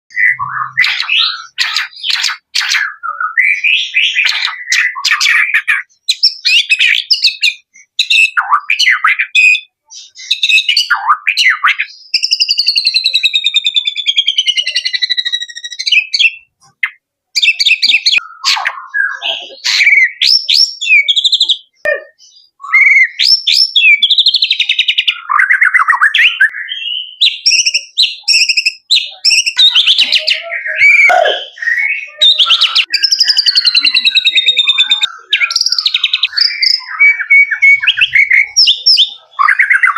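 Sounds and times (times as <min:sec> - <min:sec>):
bird singing trills and whistles: 0:00.1 - 0:39.9.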